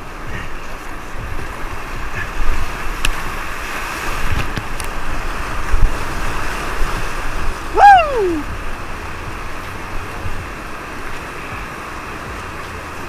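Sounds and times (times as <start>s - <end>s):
whitewater rapids rushing: 0.0s - 13.0s
wind buffeting microphone: 0.0s - 13.0s.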